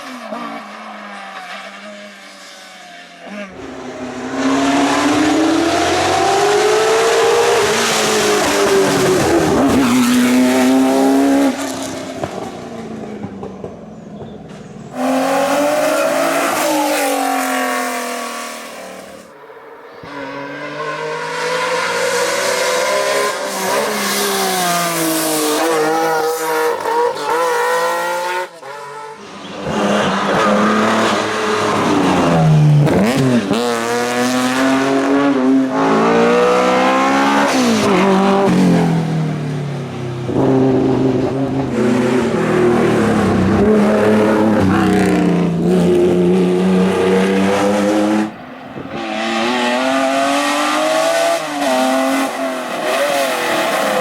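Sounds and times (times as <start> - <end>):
racing car engines revving: 3.3 - 13.7, 14.5 - 54.0.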